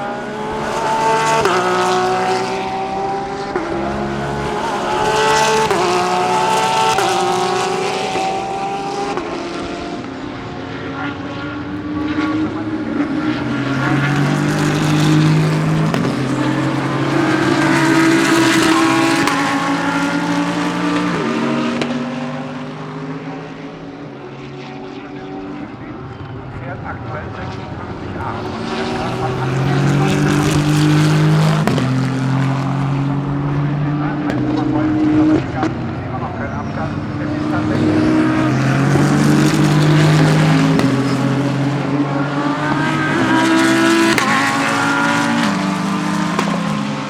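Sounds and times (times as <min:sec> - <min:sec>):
race cars passing revving hard: 0:00.0 - 0:47.0.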